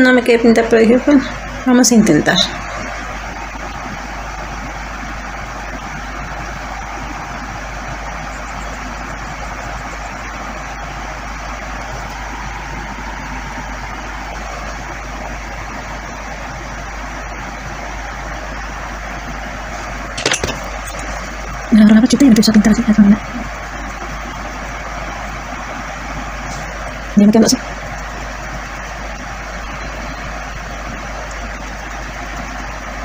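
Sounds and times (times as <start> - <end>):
constant hiss: 0.0 - 33.0.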